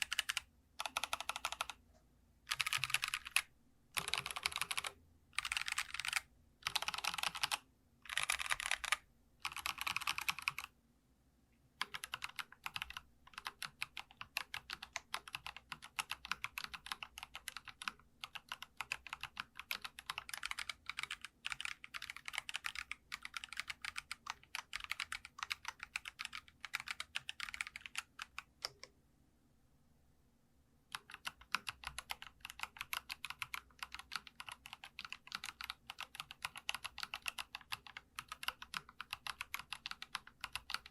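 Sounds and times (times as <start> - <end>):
mechanical keyboard typing: 0.0 - 1.8, 2.5 - 10.7, 11.8 - 28.9, 30.9 - 40.9.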